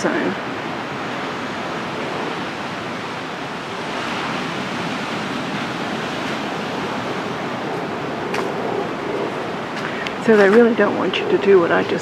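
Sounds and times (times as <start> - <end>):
waves breaking on beach: 0.0 - 12.0.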